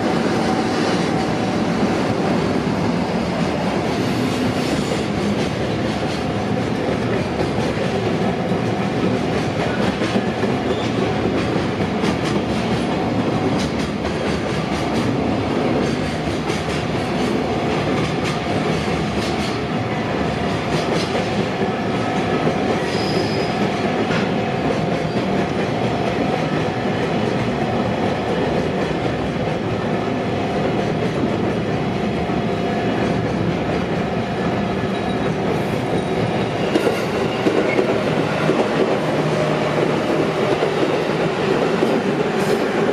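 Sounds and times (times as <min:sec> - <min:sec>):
freight train rolling past: 0:00.0 - 0:42.9.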